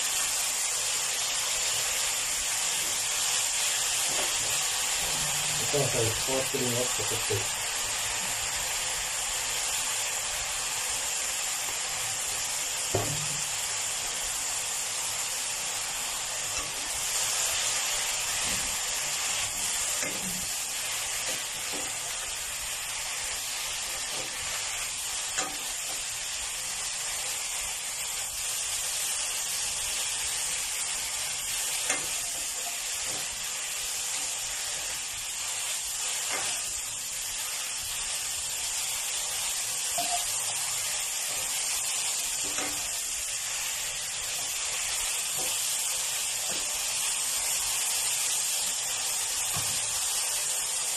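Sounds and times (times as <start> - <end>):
food sizzling in a wok: 0.0 - 50.9.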